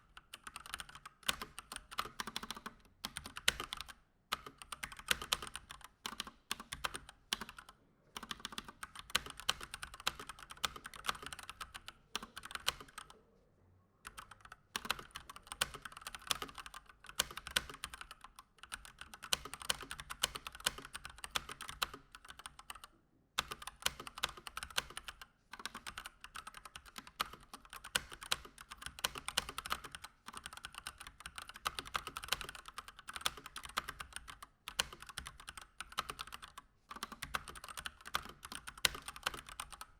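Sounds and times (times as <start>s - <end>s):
fast mechanical keyboard typing: 0.2s - 13.1s, 14.1s - 39.9s.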